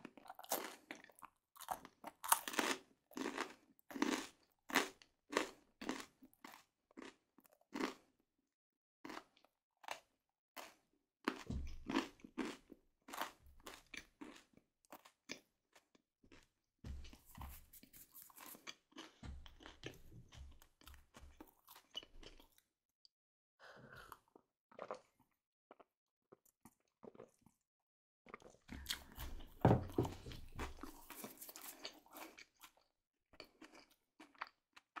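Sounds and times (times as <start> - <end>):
close chewing of food: 0.0 - 8.2, 9.0 - 22.7, 24.0 - 35.0.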